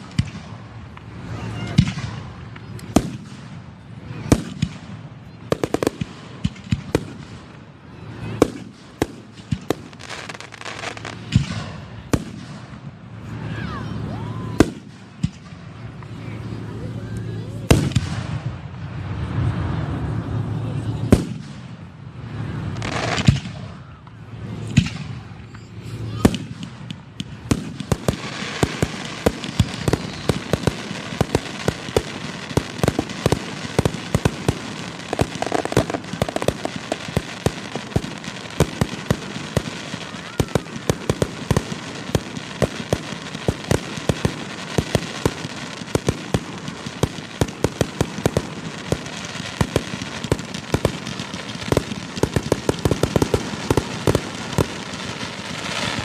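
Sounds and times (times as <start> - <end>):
firework crackle: 0.0 - 56.0.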